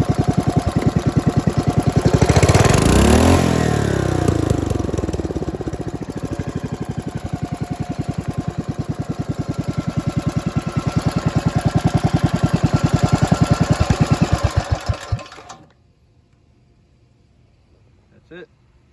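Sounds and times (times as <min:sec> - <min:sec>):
single-cylinder engine idling: 0:00.0 - 0:15.7.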